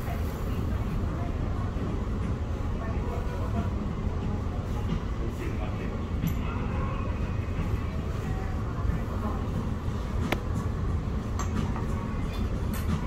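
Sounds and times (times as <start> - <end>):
low restaurant rumble: 0.0 - 13.0.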